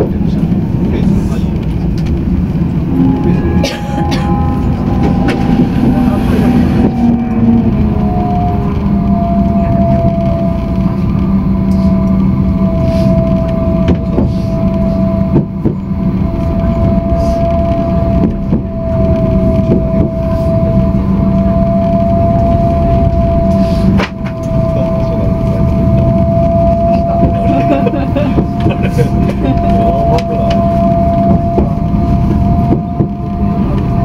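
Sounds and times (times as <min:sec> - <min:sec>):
train running inside car: 0:00.0 - 0:34.0.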